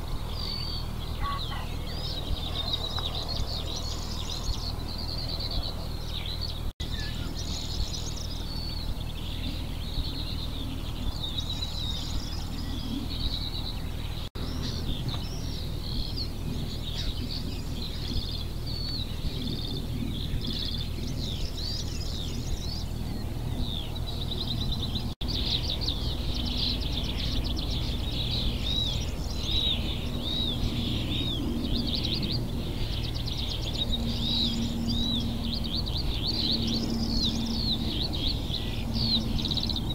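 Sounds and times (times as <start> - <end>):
low background rumble: 0.0 - 39.9
songbirds chorus singing: 0.0 - 39.9.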